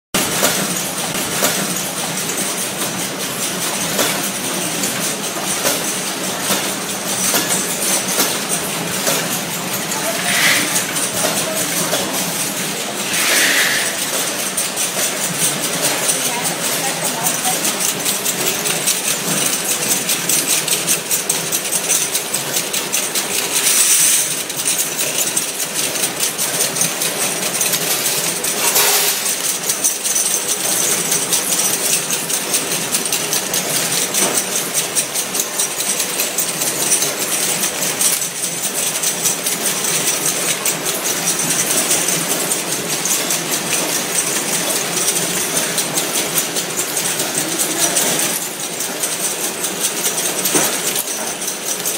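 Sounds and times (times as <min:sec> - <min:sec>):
cartoning machine clattering: 0:00.2 - 0:51.9
loud machine clack: 0:00.2 - 0:51.9.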